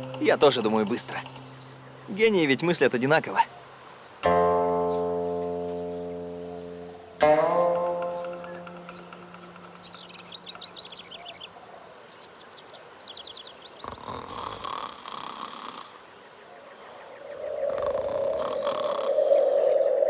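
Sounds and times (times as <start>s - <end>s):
small birds trilling: 0.0s - 7.2s, 8.0s - 14.3s, 16.0s - 20.0s.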